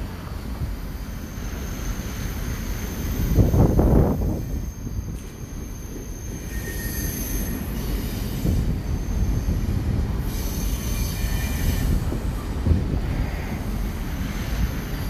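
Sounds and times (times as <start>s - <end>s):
freight train rumbling: 0.0s - 15.0s
train wheels squealing: 0.2s - 15.0s.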